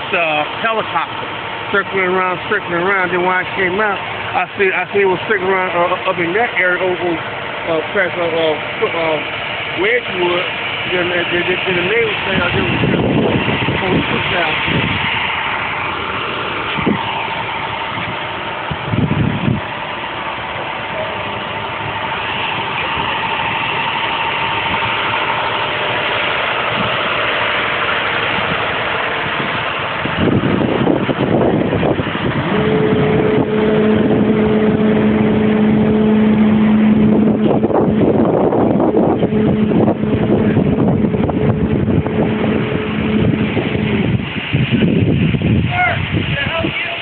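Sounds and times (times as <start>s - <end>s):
low engine drone: 0.0s - 47.0s
traffic noise: 0.0s - 47.0s
vehicle engine: 0.0s - 47.0s.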